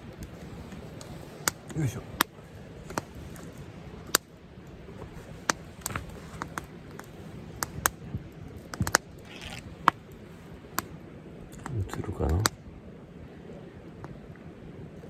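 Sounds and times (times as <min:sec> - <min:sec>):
campfire crackling and popping: 0:00.0 - 0:12.8, 0:13.8 - 0:15.0.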